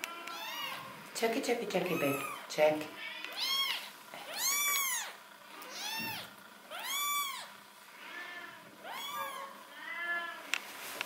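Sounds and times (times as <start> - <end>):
kittens mewing: 0.1 - 1.0, 1.8 - 10.4.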